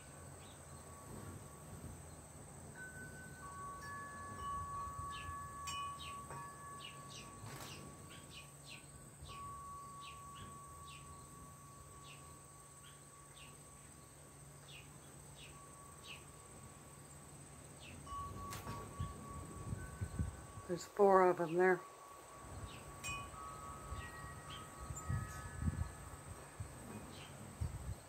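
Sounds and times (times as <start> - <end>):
metal wind chimes ringing: 0.0 - 28.0.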